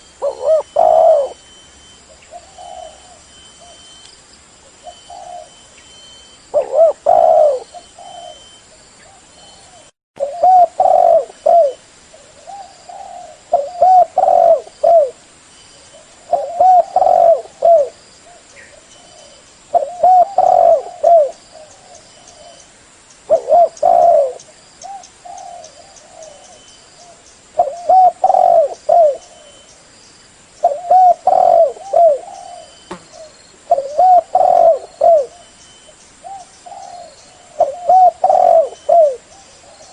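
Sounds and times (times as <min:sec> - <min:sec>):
dove cooing: 0:00.0 - 0:01.4, 0:02.1 - 0:03.8, 0:04.8 - 0:05.6, 0:06.5 - 0:15.2, 0:15.8 - 0:22.6, 0:23.3 - 0:29.7, 0:30.6 - 0:35.6, 0:36.2 - 0:39.9.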